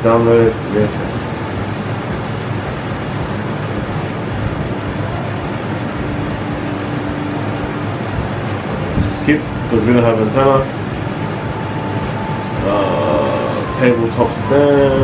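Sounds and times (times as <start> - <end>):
faint steady hum: 0.0 - 15.0
steady rushing noise: 0.0 - 15.0.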